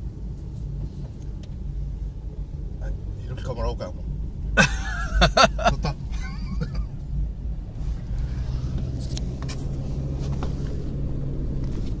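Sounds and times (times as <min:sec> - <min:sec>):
low engine hum: 0:00.0 - 0:12.0
road noise rumble in car: 0:00.0 - 0:12.0.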